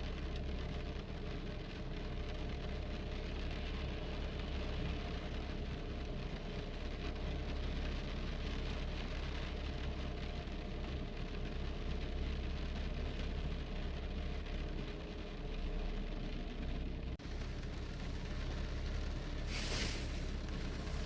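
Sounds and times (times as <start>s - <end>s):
low rumble: 2.0s - 21.0s.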